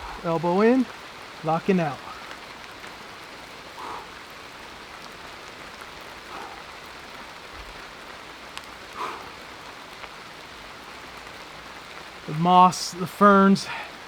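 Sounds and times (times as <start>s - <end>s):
rain falling through trees: 0.0s - 14.0s.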